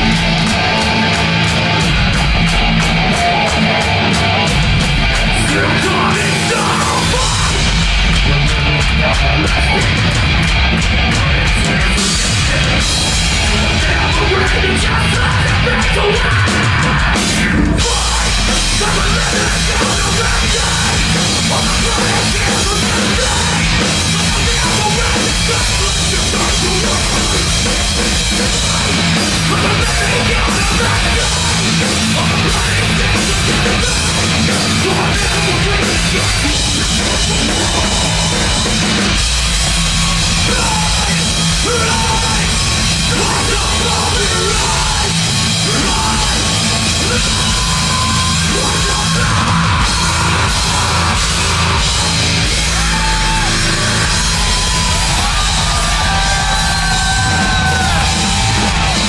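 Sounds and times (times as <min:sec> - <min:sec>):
live metal band playing: 0:00.0 - 0:59.0.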